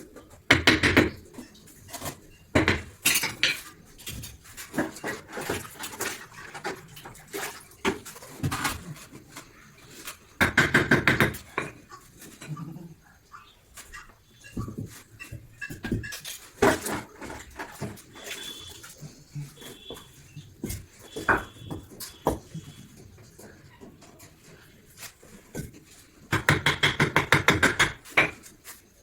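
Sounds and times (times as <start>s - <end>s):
clinks and knocks of hard objects: 0.0s - 12.7s, 13.8s - 29.0s.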